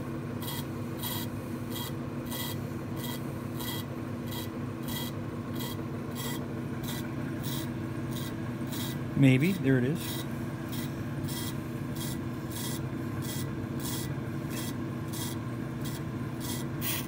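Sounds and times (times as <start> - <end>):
brake lathe motor hum: 0.0 - 17.0.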